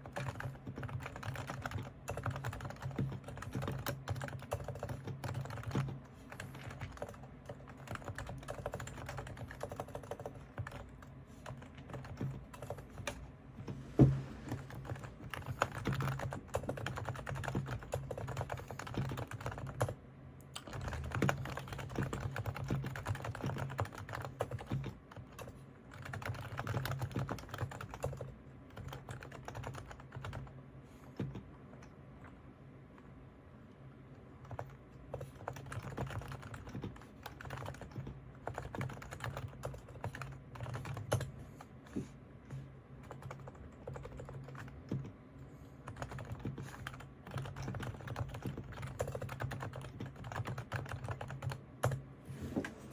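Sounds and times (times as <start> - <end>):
soft keyboard typing: 0.0 - 13.8, 14.4 - 33.1, 34.1 - 45.2, 45.8 - 52.9.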